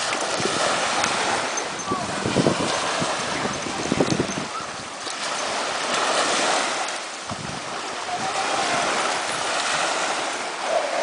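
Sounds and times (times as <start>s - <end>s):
sea waves washing onto beach: 0.0s - 11.0s.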